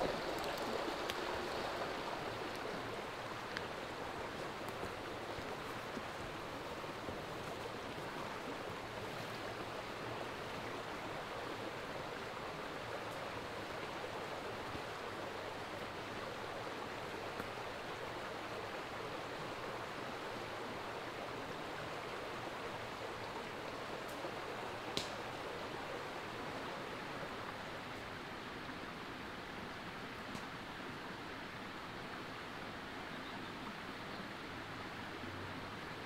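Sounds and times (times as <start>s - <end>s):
stream water flowing: 0.0s - 36.0s.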